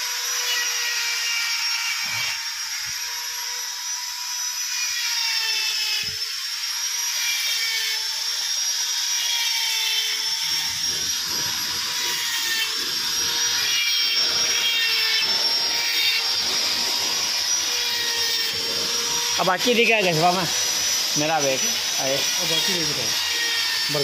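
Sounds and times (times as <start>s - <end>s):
power tool high whine: 0.0s - 24.0s.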